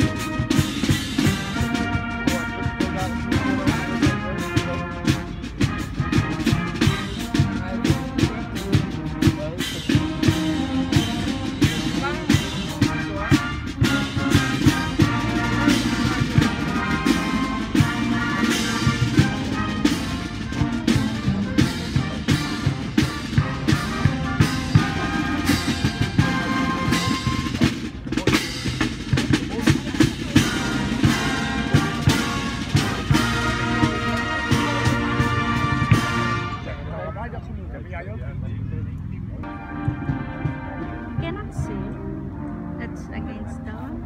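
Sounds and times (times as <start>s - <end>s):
snare and bass drums: 0.0s - 37.0s
marching band brass: 0.0s - 38.0s, 39.4s - 44.0s.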